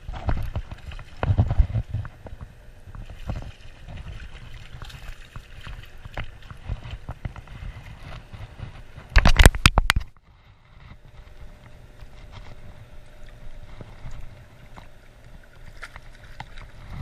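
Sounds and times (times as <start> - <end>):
fish splashing: 0.0 - 10.0, 11.0 - 17.0
wind rumbling on microphone: 0.0 - 17.0.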